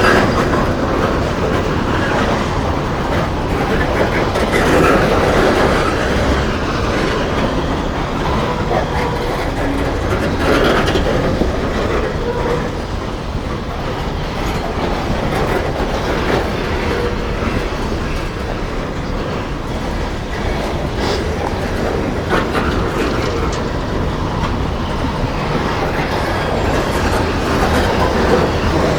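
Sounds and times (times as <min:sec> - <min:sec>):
train cars rolling past: 0:00.0 - 0:28.9
wheels clicking over rail joints: 0:00.0 - 0:28.9.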